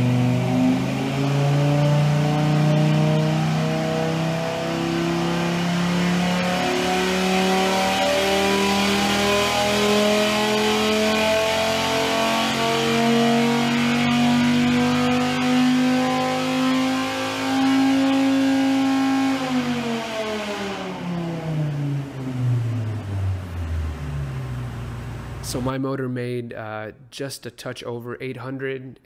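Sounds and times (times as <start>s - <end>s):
engine under load on dyno: 0.0s - 25.7s.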